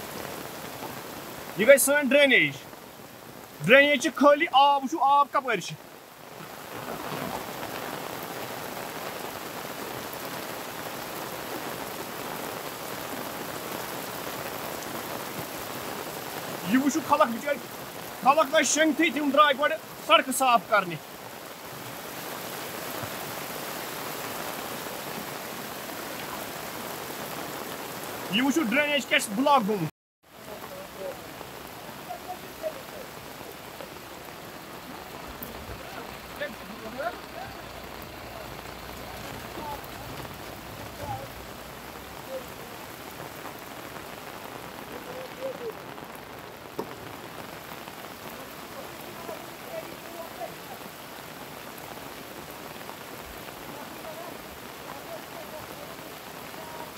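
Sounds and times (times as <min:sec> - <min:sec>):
flood water rushing: 0:00.0 - 0:56.9
rain falling: 0:00.0 - 0:56.9.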